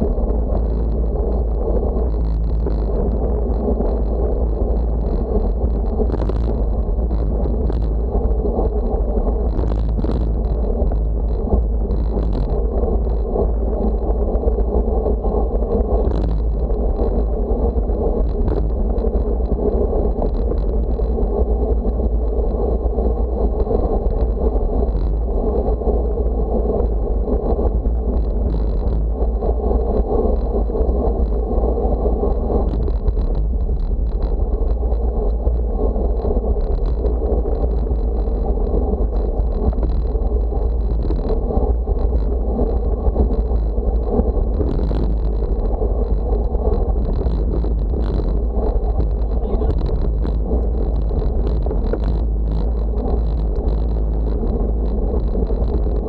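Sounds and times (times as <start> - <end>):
bicycle road noise: 0.0 - 56.0
wind on microphone: 0.0 - 56.0.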